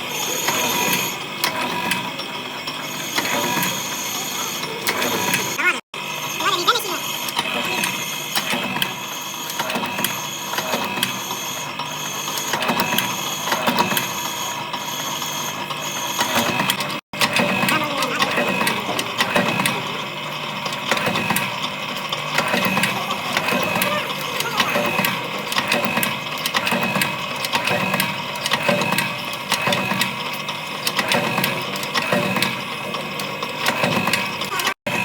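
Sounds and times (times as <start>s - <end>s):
metalworking machinery clattering: 0.0s - 5.8s, 6.5s - 35.0s
high machine whine: 0.0s - 35.0s.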